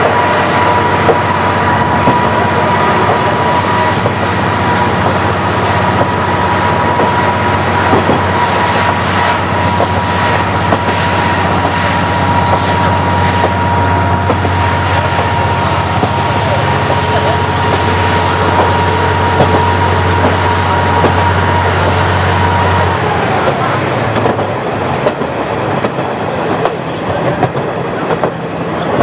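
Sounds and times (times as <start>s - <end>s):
diesel railcar drone and whine: 0.0s - 29.0s.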